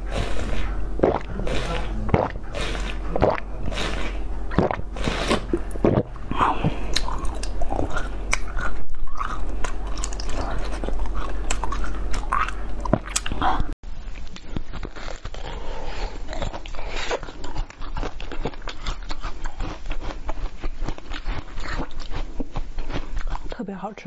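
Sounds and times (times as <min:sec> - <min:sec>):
wet sucking and chewing: 0:00.0 - 0:23.6.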